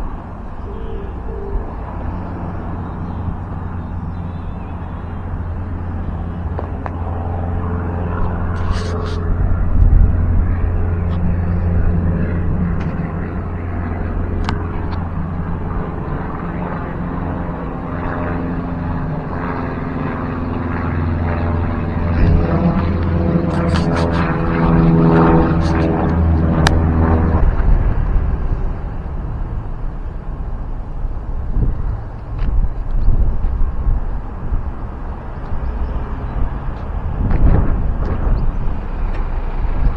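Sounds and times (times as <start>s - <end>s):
propeller aeroplane engine drone: 0.0s - 39.9s.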